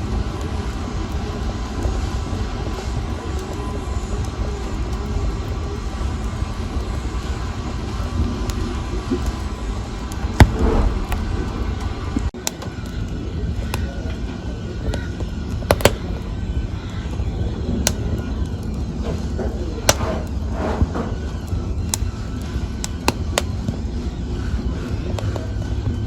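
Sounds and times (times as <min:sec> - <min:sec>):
wood fire crackling: 0:00.0 - 0:26.0
sharp pops of fire: 0:00.3 - 0:14.0, 0:14.9 - 0:16.4, 0:17.6 - 0:23.9.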